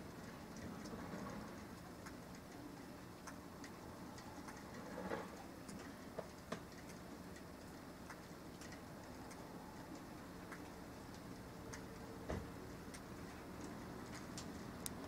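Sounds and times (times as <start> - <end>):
low steady hiss: 0.0 - 15.0
rain and snow ticking: 0.0 - 15.0.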